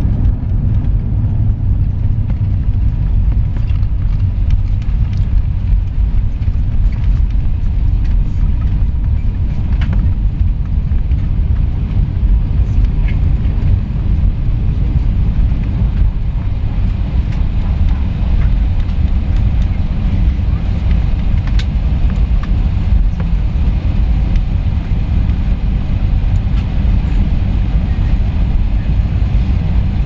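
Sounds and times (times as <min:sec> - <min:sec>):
airliner low rumble: 0:00.0 - 0:30.0.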